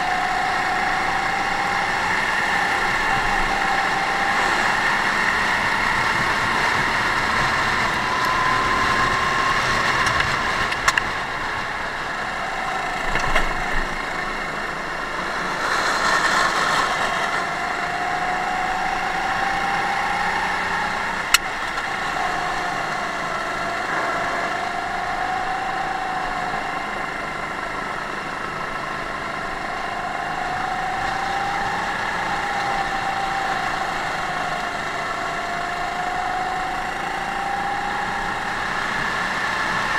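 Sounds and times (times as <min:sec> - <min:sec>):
kart engine: 0:00.0 - 0:39.9.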